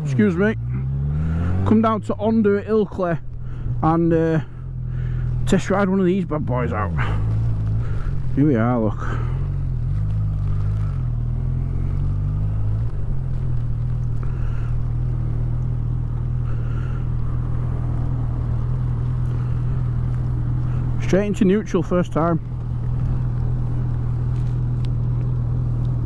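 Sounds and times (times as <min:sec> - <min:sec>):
motorcycle engine idling: 0:03.2 - 0:11.2, 0:12.4 - 0:26.0.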